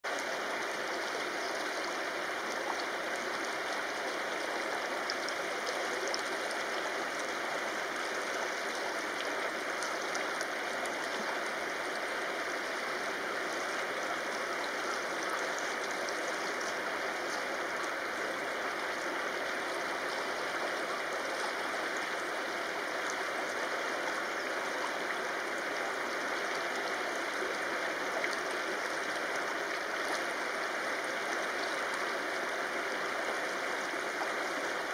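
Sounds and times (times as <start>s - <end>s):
river babbling over stones: 0.1s - 34.9s.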